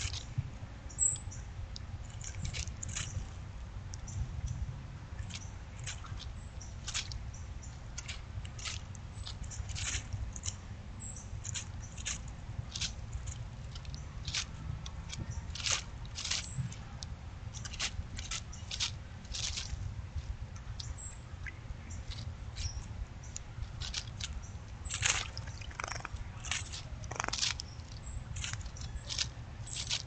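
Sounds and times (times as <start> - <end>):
bird ticks and chips: 0.0 - 30.0.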